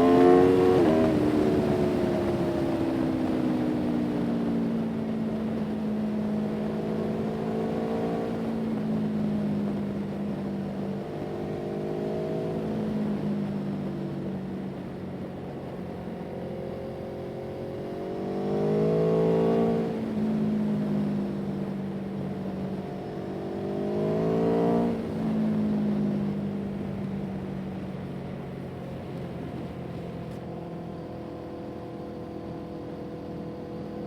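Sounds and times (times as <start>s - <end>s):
vehicle engine accelerating: 0.0s - 14.9s, 15.6s - 34.0s.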